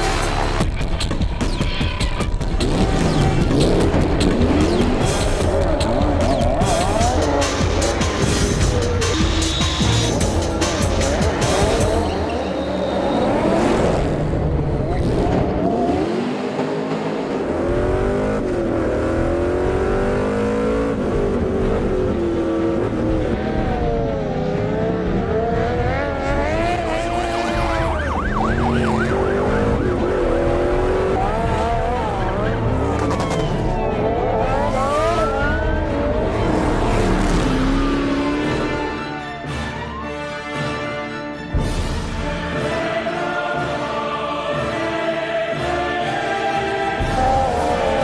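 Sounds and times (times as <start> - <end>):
background music: 0.0 - 48.0
engines revving: 0.0 - 48.0.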